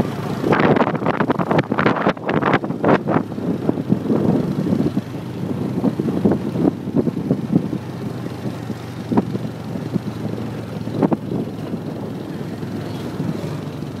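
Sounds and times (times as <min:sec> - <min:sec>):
motorbike engine running: 0:00.0 - 0:14.0
wind rumble on microphone: 0:00.0 - 0:14.0.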